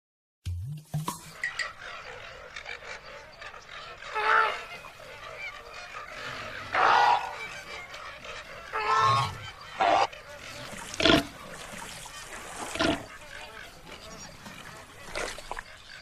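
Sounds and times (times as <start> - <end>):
loud animal calls: 1.4 - 15.6.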